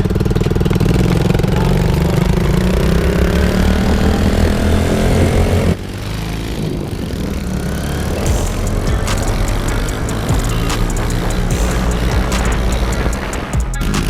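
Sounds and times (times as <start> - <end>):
small motorcycle engine revving: 0.0 - 14.0.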